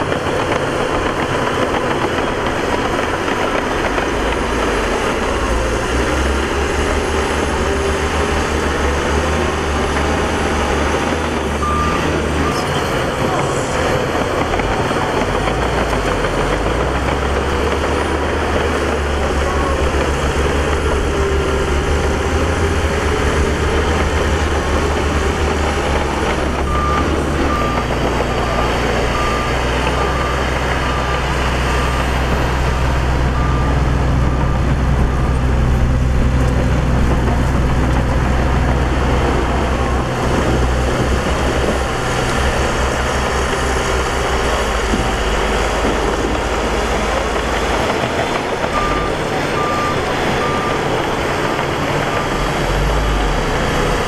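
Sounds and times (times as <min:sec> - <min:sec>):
heavy diesel engines running: 0:00.0 - 0:54.0
reversing alarm beeping: 0:04.6 - 0:37.3, 0:41.2 - 0:53.7.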